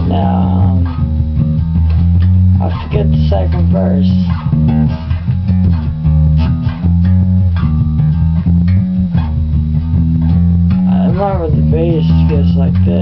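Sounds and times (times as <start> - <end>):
bass guitar riff: 0.0 - 13.0.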